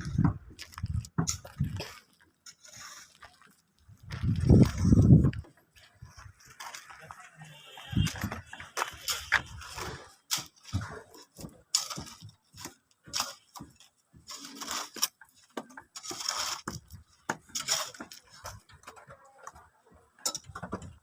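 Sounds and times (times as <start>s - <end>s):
tools scraping: 0.0s - 19.6s, 20.2s - 21.0s.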